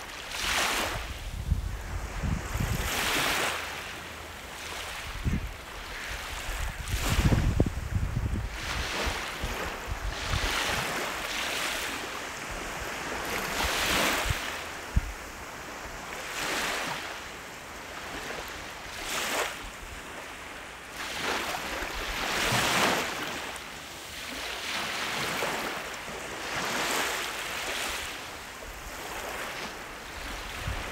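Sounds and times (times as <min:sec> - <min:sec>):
small waves washing on sand: 0:00.0 - 0:30.9.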